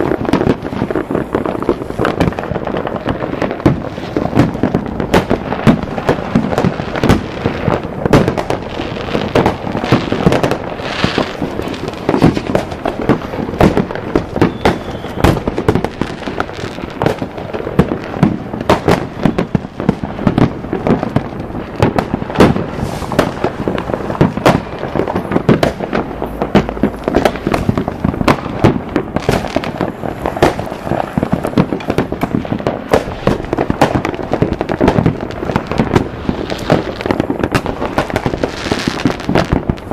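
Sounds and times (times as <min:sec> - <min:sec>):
fireworks bangs and pops: 0:00.0 - 0:39.9.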